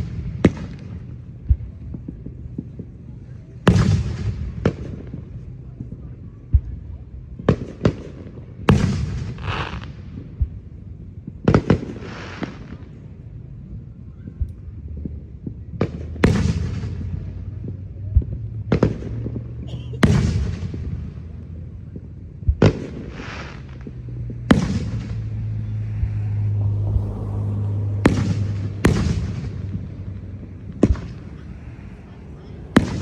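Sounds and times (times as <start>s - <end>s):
fireworks bangs echoing: 0.0s - 5.5s, 6.6s - 13.0s, 15.0s - 26.6s, 27.5s - 33.0s.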